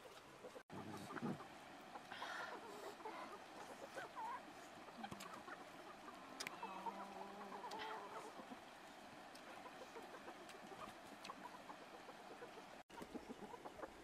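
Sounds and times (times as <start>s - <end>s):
fowl clucking: 0.0s - 8.7s, 9.4s - 14.0s.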